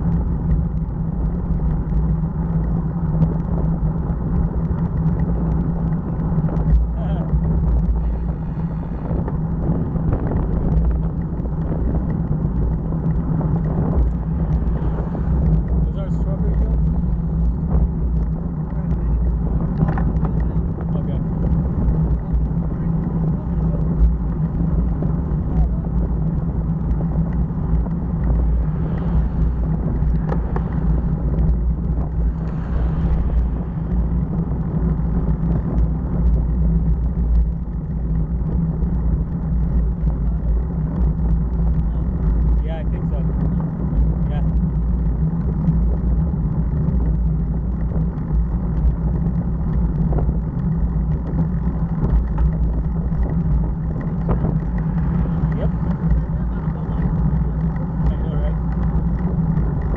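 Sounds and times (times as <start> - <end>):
constant rushing noise: 0.0 - 59.9
motorcycle engine running: 0.0 - 59.9
wind noise: 0.0 - 59.9.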